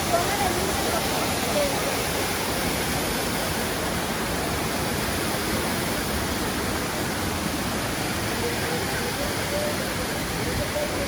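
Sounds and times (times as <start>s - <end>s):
fast-flowing water rushing: 0.0s - 11.0s.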